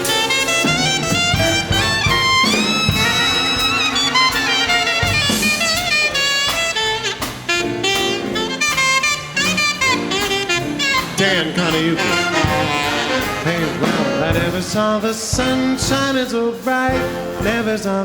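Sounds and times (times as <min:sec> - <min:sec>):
alto saxophone solo: 0:00.0 - 0:14.5
swing big band playing: 0:00.0 - 0:18.0.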